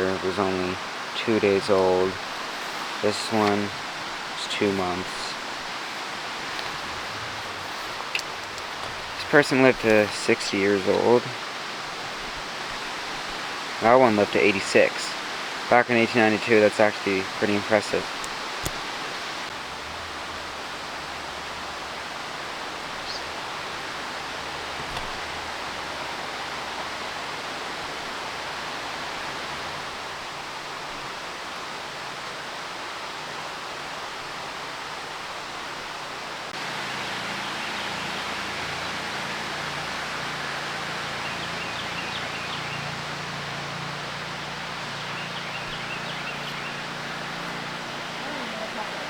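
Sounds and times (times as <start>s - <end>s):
outdoor ambient hiss: 0.0s - 49.0s.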